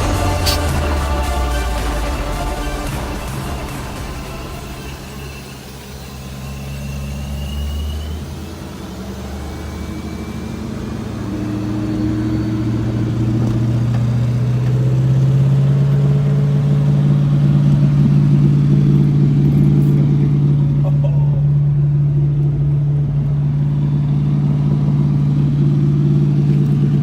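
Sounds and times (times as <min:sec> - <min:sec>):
car engine running at low revs: 0:00.0 - 0:27.0.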